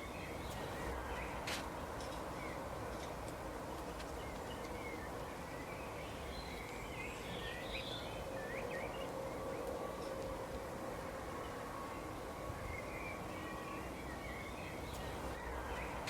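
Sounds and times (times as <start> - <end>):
faint constant hum: 0.0 - 16.0
songbirds chirping: 0.0 - 16.0.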